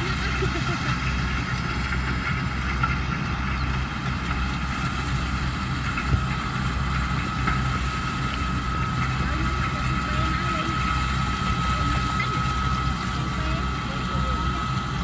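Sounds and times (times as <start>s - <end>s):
harvester engine droning: 0.0s - 15.0s.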